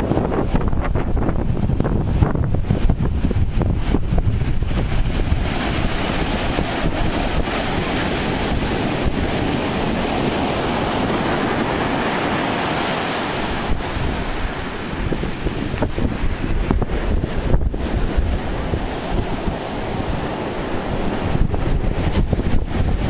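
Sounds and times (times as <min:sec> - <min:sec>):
surf breaking on sand: 0:00.0 - 0:23.0
wind buffeting microphone: 0:00.0 - 0:23.0.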